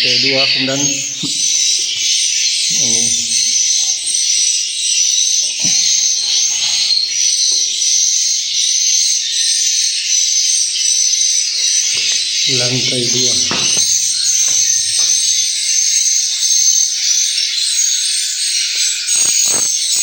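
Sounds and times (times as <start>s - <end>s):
bird calls from speakers: 0.0s - 20.0s.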